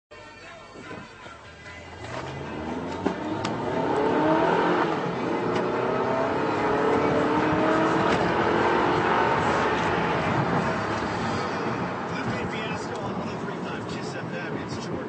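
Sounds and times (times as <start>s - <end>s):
car engine accelerating hard: 1.9s - 15.0s.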